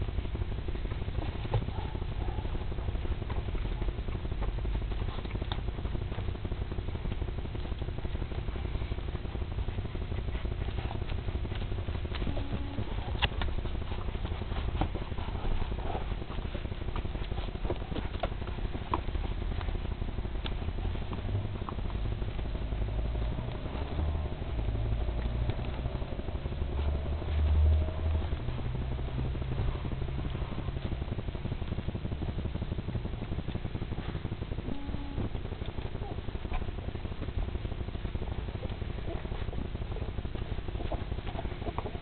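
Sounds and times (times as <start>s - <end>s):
low steady rumble: 0.0s - 42.0s
puppies suckling: 0.0s - 42.0s.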